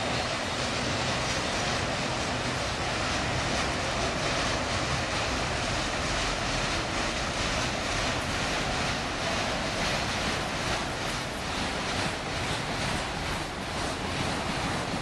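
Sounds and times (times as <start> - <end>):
freight cars rolling on rails: 0.0 - 15.0.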